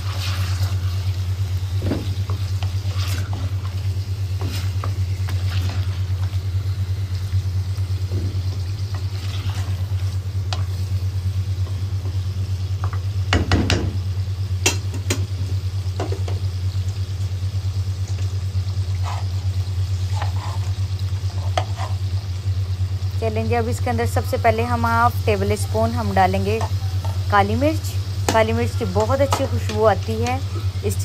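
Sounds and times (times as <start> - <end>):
chicken sizzling in clay pot: 0.0 - 31.0
steady low hum: 0.0 - 31.0.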